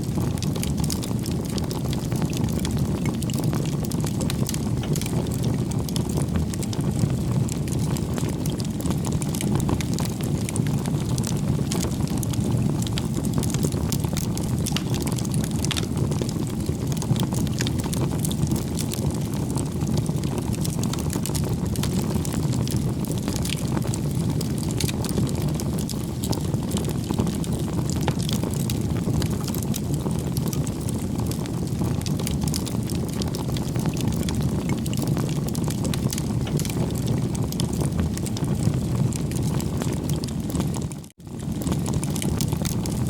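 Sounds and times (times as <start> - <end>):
rush of flames: 0.0 - 43.0
burning wood crackling: 0.1 - 43.0.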